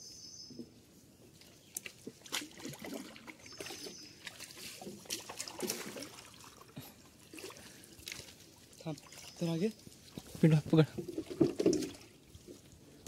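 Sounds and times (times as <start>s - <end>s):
wading through shallow water: 1.3s - 13.0s.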